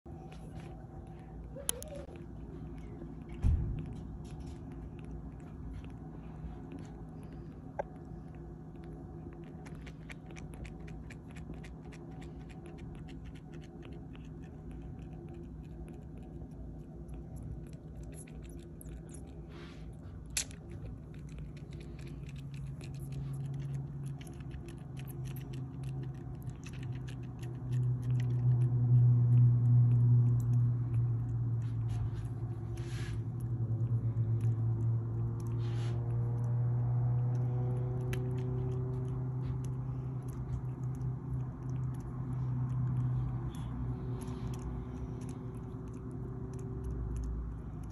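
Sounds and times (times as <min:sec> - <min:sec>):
low steady rumble: 0:00.0 - 0:47.9
kitten suckling from bottle: 0:00.3 - 0:47.9.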